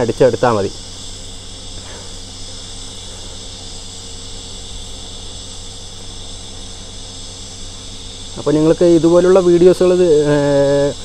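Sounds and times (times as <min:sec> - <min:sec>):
welding arc hissing: 0:00.0 - 0:11.0.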